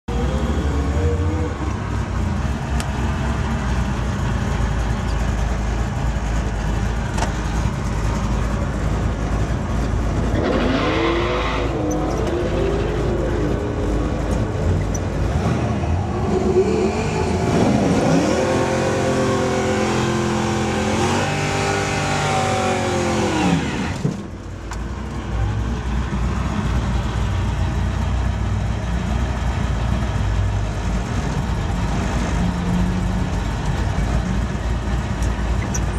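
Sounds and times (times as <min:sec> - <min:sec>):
car engines revving: 0:00.1 - 0:35.9.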